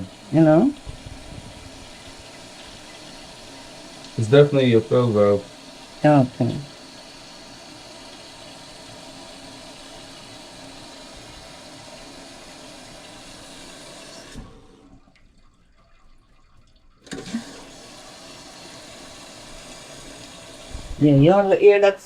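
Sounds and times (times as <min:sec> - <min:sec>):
water hissing into toilet tank: 0:00.0 - 0:15.1, 0:17.0 - 0:21.8.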